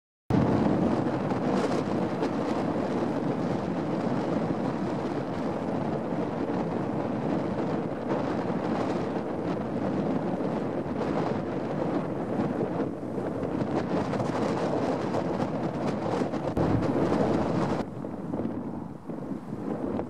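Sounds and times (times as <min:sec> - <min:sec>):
wind buffeting microphone: 0:00.3 - 0:20.0.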